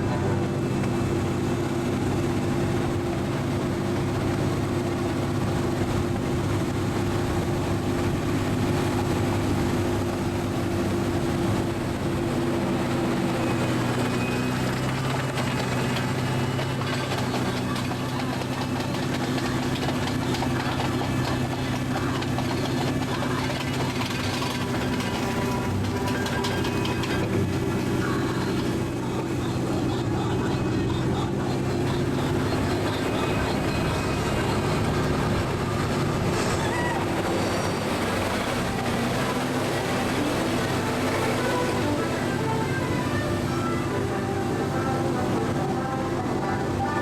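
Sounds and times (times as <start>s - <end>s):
ride vehicle motor humming: 0.0s - 47.0s.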